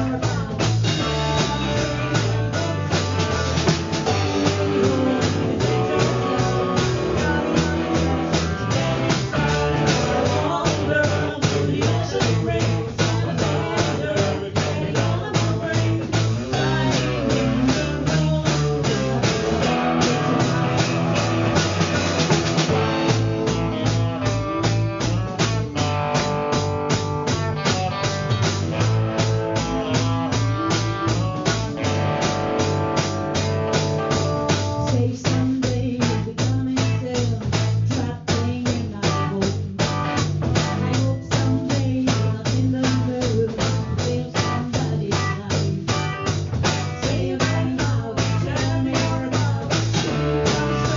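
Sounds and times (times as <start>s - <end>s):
drum kit steady beat: 0.0s - 50.9s
electric bass: 0.0s - 50.9s
electric guitar: 0.0s - 50.9s.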